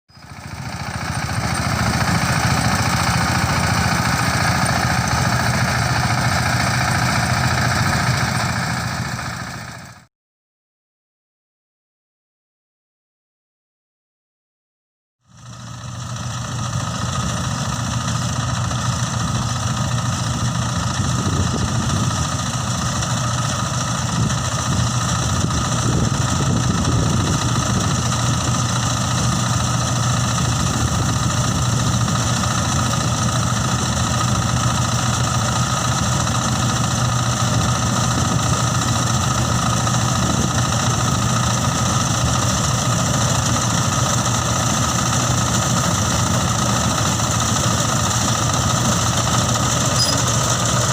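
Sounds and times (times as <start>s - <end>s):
combine harvester running: 0.1s - 10.1s, 15.3s - 50.9s.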